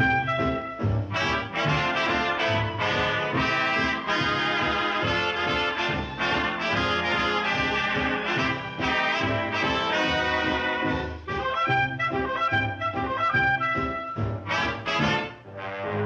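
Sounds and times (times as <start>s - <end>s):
orchestral cartoon music with brass: 0.0s - 16.0s.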